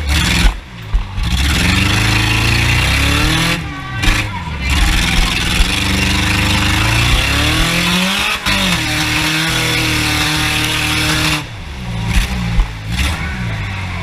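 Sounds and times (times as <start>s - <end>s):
heavy rushing noise: 0.0s - 14.0s
race car engine revving: 0.0s - 14.0s.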